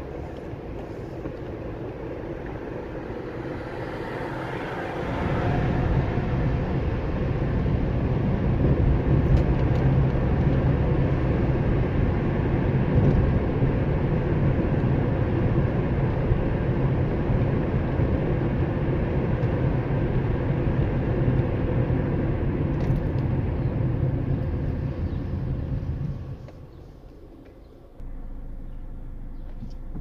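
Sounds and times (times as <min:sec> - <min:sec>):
faint engine hum: 0:00.0 - 0:30.0
road noise: 0:00.0 - 0:30.0
road vehicle rumble: 0:00.0 - 0:30.0.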